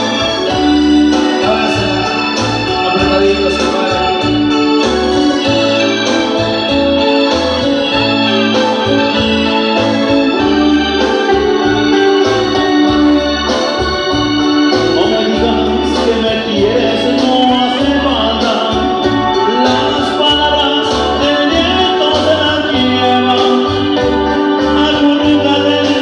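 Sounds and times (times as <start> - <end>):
bass line: 0.0 - 26.0
electronic organ melody: 0.0 - 26.0
live band instrumental: 0.0 - 26.0.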